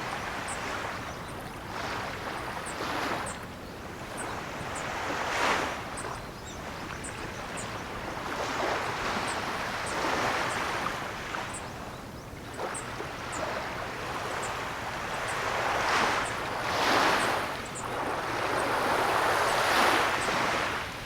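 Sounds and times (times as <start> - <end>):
ocean waves breaking: 0.0 - 11.7, 12.4 - 21.0.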